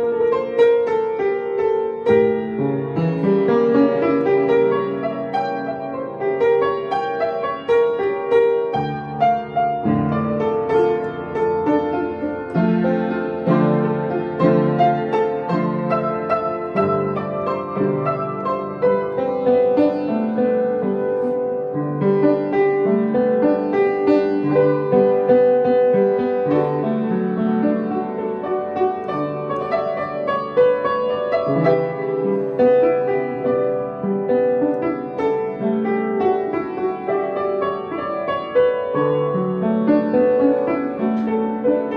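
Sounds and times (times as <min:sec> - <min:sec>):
piano melody over chords: 0:00.0 - 0:41.9.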